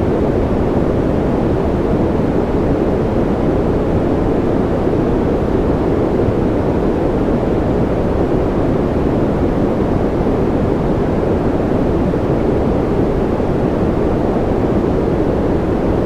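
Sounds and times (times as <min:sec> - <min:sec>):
white noise hiss: 0:00.0 - 0:16.0.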